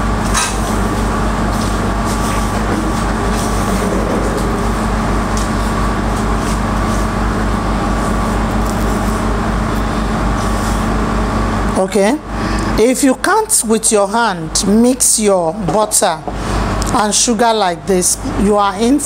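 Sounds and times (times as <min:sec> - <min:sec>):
machine drone with pulsing hum: 0:00.0 - 0:19.0.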